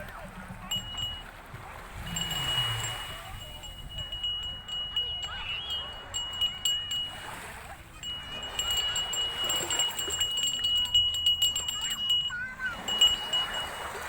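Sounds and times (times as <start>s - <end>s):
sea waves: 0.0s - 14.0s
hand bell ringing rapidly: 0.6s - 1.3s, 2.0s - 14.0s.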